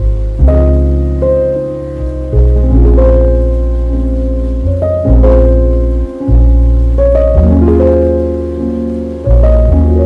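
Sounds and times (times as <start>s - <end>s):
deep bass note: 0.0s - 10.0s.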